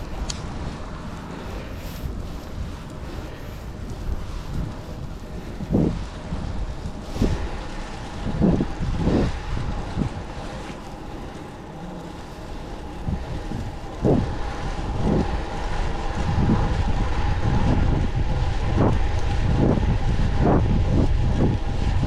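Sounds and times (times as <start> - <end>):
low road rumble: 0.0 - 22.0
wind buffeting microphone: 0.0 - 22.0.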